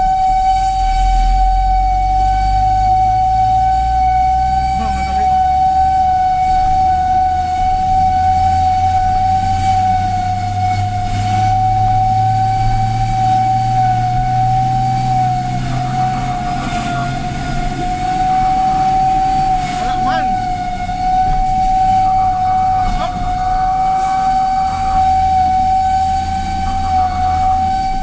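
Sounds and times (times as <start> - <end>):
fire truck siren: 0.0 - 28.0
truck engine running: 0.0 - 28.0.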